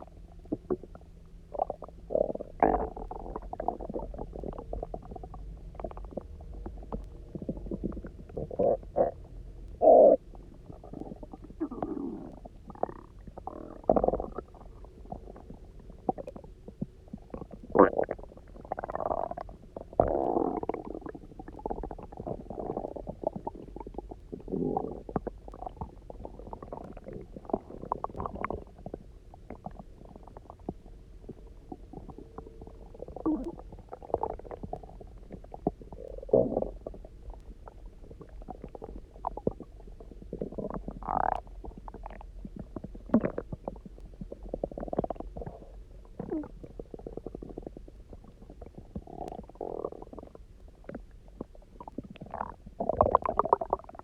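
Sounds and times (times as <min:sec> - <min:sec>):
stomach growling and gurgling: 0:00.0 - 0:54.0.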